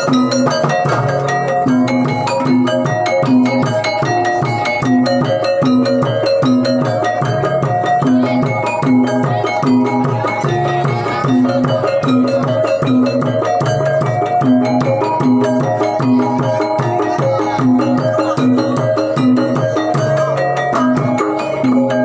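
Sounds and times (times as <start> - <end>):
gamelan music: 0.0 - 22.0.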